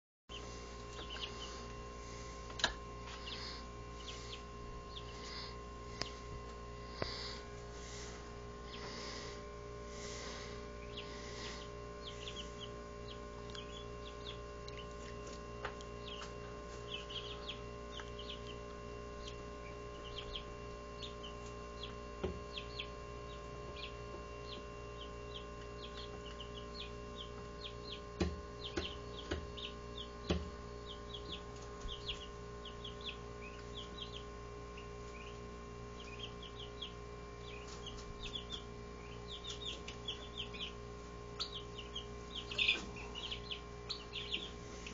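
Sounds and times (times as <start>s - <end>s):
chicks peeping: 0.3s - 44.9s
electrical hum: 0.3s - 44.9s.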